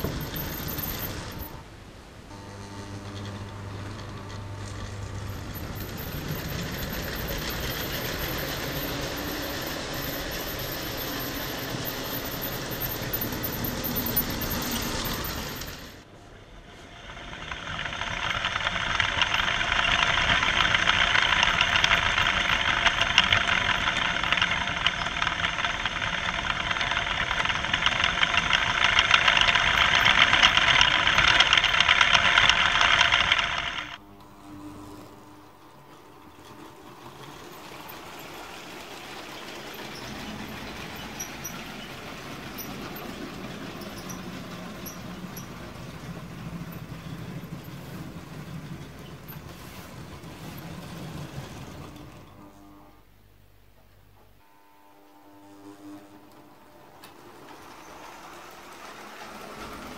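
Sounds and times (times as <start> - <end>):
toy train motors whirring and rattling: 0.0 - 1.6, 3.0 - 16.1, 16.7 - 52.9, 55.8 - 59.9.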